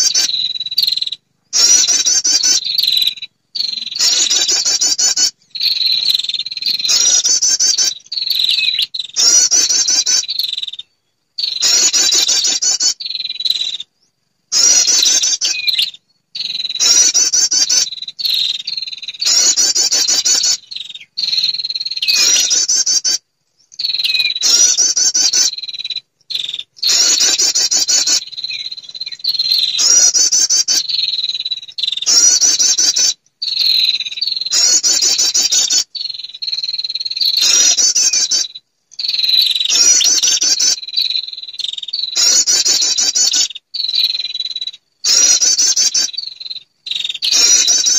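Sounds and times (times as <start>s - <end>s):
buzzy trilled bird calls: 0.0s - 47.9s.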